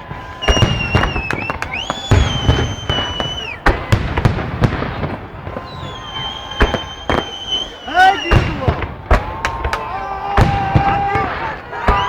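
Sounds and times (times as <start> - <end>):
fireworks bangs and crackles: 0.0 - 12.0
high-pitched fireworks whistles: 0.0 - 12.0.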